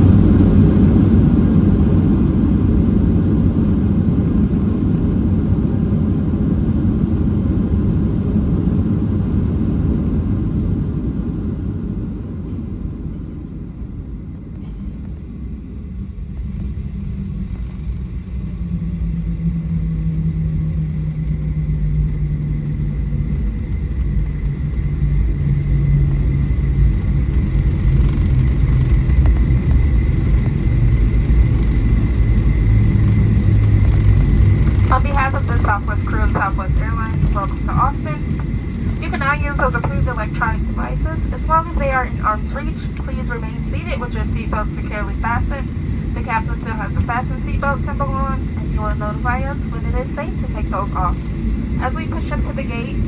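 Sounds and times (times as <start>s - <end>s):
airplane cabin rumble: 0.0s - 53.0s
high engine whine: 0.0s - 53.0s.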